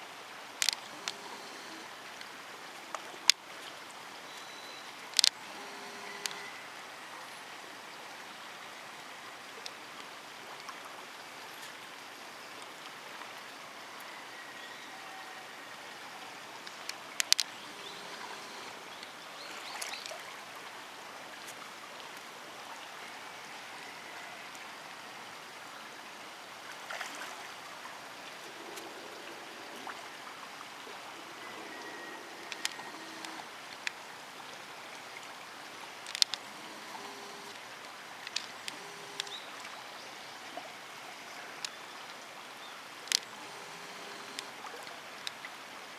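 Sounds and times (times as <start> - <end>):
river water running: 0.0 - 45.9.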